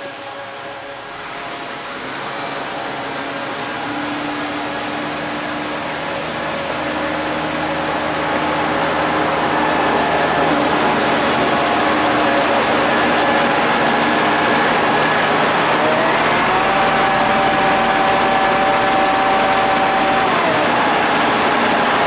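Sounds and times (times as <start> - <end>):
heavy engine humming: 0.0 - 22.0
rushing noise: 0.0 - 22.0.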